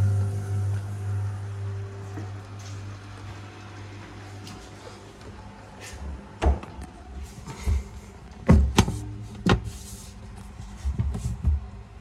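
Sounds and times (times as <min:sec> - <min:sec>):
fridge humming: 0:00.0 - 0:12.0.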